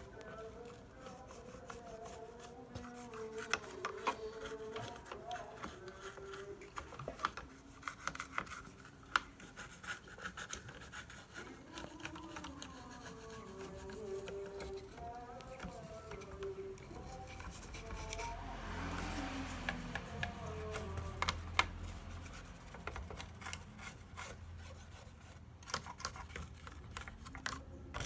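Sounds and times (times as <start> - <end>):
faint background music: 0.0 - 28.0
hand tools clicking and scraping: 0.0 - 28.0.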